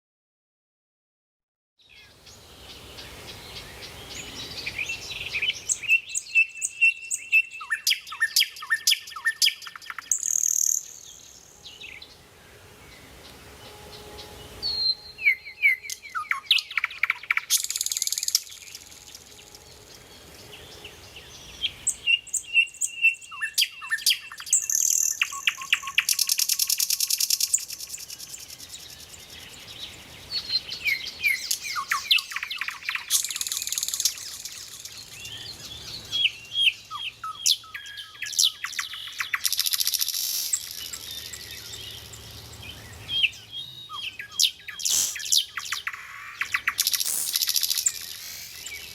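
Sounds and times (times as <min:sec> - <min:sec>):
nightingale singing: 0:01.8 - 0:48.9.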